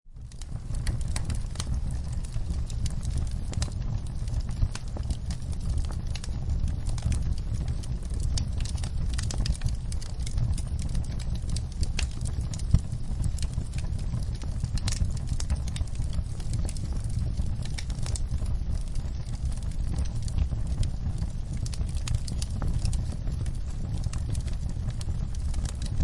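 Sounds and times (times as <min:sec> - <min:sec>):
wood fire crackling: 0:00.1 - 0:26.0.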